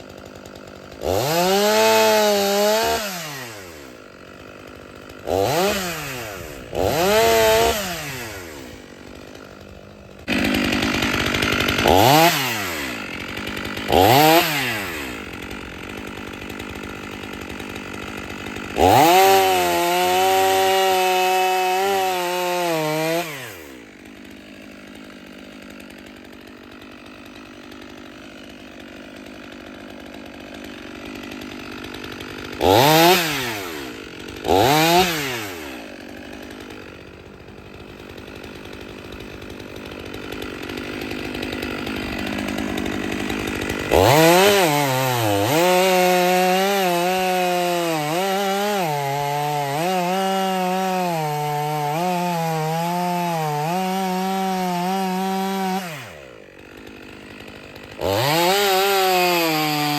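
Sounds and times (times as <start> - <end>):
chainsaw cutting wood: 0.0 - 59.9
chainsaw revving and idling: 0.0 - 59.9.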